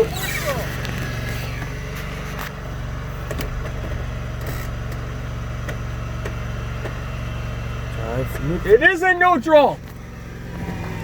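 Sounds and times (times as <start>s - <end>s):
lawnmower engine running: 0.0s - 11.0s.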